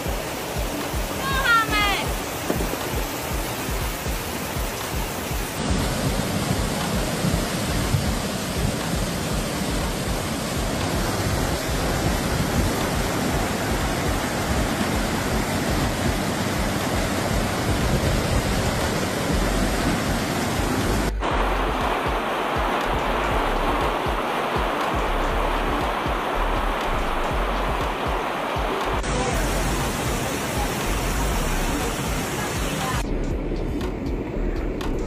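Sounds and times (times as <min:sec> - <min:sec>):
floodwater rushing: 0:00.0 - 0:35.0
heavy rain: 0:00.0 - 0:35.0.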